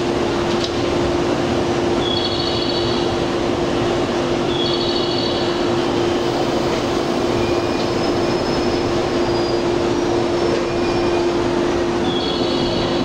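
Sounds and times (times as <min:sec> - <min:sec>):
train blower hum: 0:00.0 - 0:13.0.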